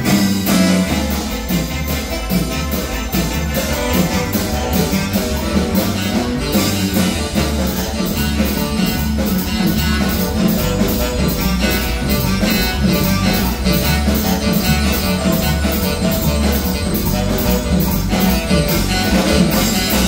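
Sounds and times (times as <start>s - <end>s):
marimba band dance music: 0.0s - 20.0s.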